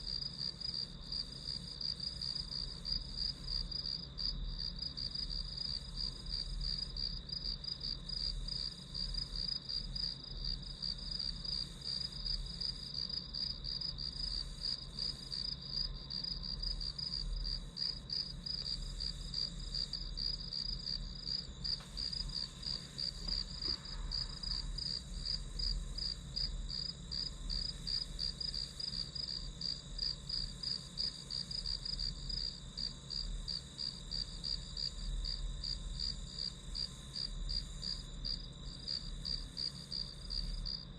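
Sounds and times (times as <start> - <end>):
crickets chirping: 0.0 - 40.9
low steady hum: 0.0 - 40.9.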